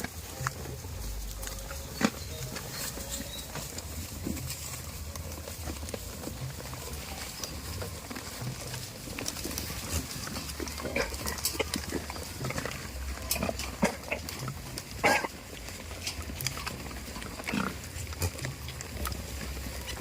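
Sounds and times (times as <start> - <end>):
goats calling: 0.0 - 20.0.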